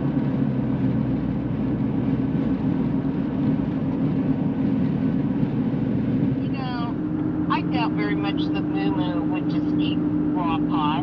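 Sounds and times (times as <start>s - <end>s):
vehicle engine and tyre hum: 0.0s - 11.0s.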